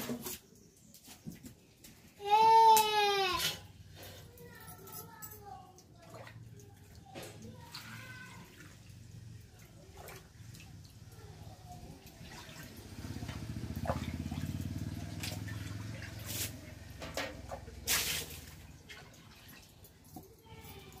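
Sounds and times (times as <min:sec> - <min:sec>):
water sloshing in a metal bucket: 0:02.8 - 0:21.0.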